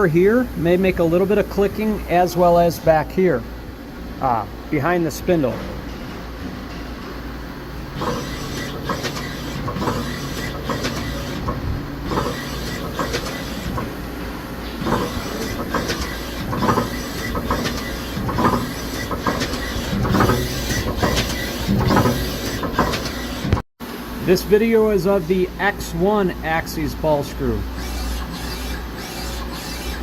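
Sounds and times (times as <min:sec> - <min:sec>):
machine hum: 0:03.4 - 0:30.0.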